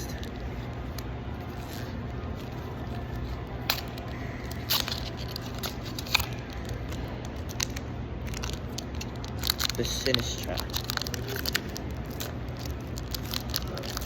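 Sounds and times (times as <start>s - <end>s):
foil pack crinkling: 0.0s - 14.0s
steady low hum: 0.0s - 14.0s.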